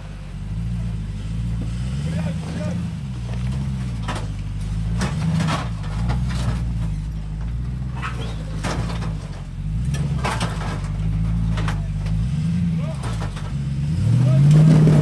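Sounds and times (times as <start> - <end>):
car engine at low revs: 0.0 - 15.0
sharp knocks and crunches: 1.6 - 13.8.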